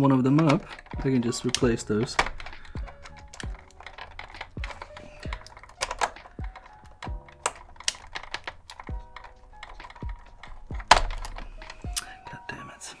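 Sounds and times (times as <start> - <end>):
quiet background music: 0.0 - 13.0
clicks of small parts handled: 0.4 - 12.5.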